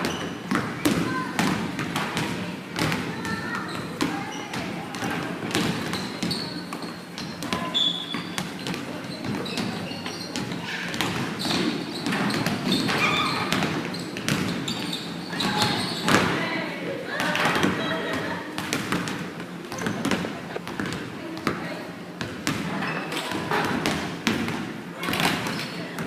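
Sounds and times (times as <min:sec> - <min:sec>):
basketballs bouncing on court: 0:00.0 - 0:16.5, 0:17.1 - 0:26.0.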